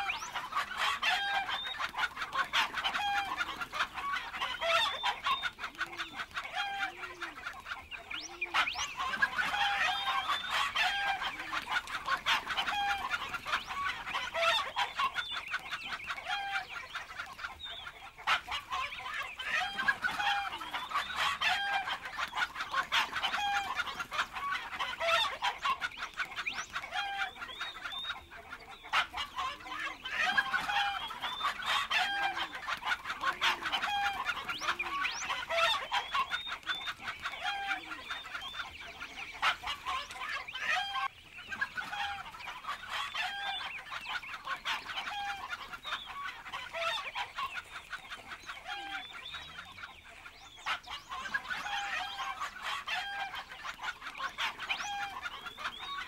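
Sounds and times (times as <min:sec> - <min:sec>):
chickens clucking and calling: 0:00.0 - 0:56.0.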